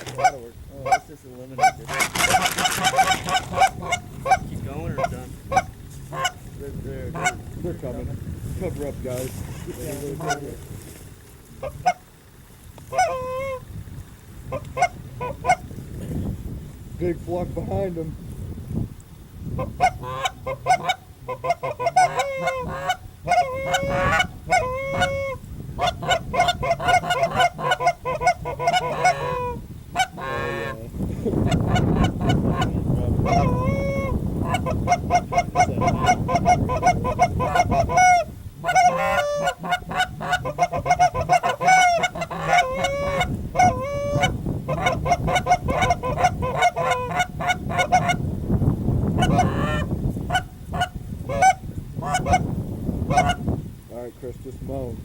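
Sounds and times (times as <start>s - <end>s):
geese honking and clucking: 0.0s - 6.4s, 7.1s - 7.6s, 9.1s - 11.0s, 11.6s - 12.1s, 12.8s - 13.8s, 14.4s - 15.7s, 19.5s - 48.3s, 49.0s - 53.6s.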